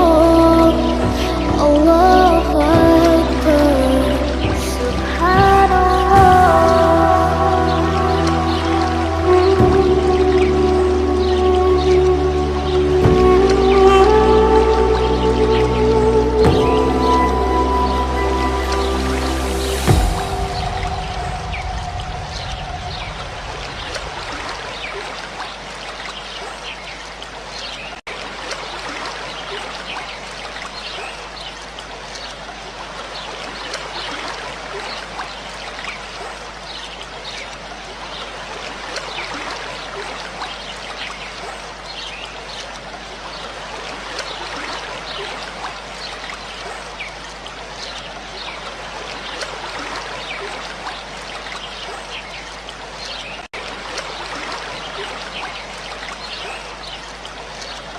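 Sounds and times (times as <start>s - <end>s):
stream flowing and trickling: 0.0s - 57.9s.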